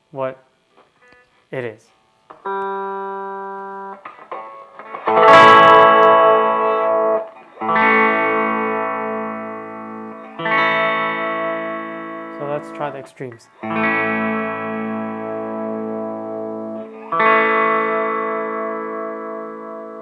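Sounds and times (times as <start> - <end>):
distorted electric guitar chords: 2.3 - 20.0.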